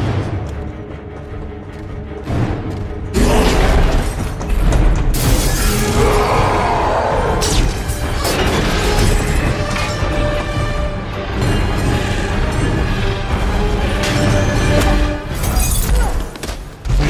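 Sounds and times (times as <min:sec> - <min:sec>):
dramatic music: 0:00.0 - 0:17.0.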